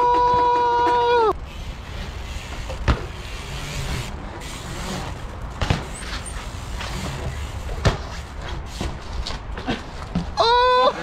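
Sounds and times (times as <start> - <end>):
bike hitting hard ground: 0.0 - 10.4.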